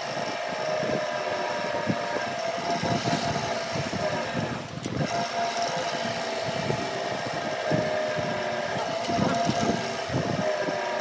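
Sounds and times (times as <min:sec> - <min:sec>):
wood lathe whining: 0:00.0 - 0:11.0.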